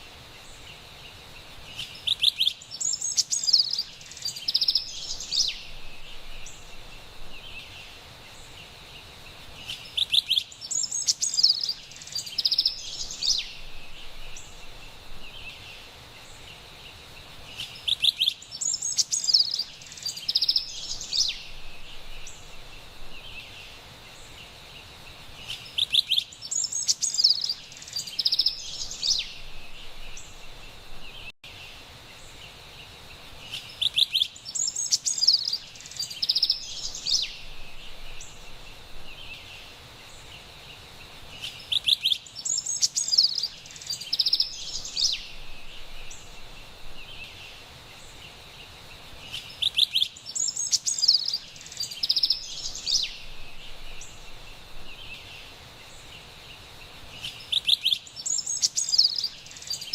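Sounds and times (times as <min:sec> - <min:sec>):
steady high background hiss: 0:00.0 - 0:59.9.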